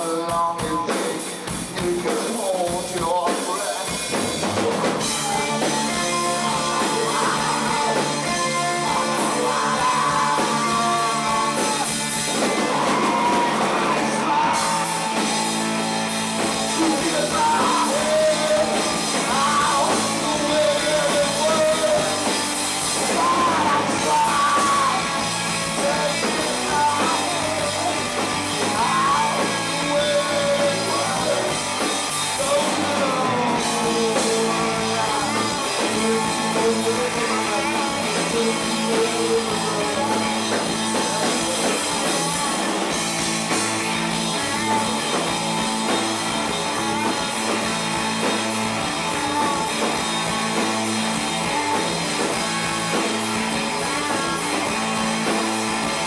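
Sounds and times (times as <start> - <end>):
bass guitar: 0.0 - 56.0
drum kit: 0.0 - 56.0
electric guitar: 0.0 - 56.0
person singing: 0.0 - 56.0.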